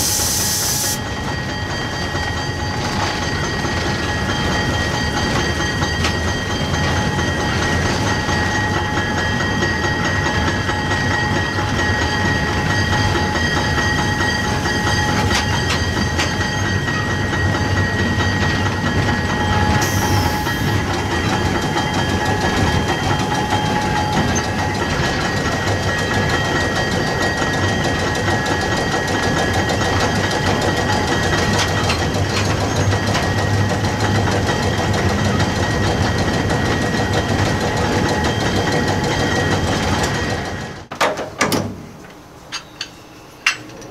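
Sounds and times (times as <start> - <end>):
locomotive running rumble: 0.0 - 43.9.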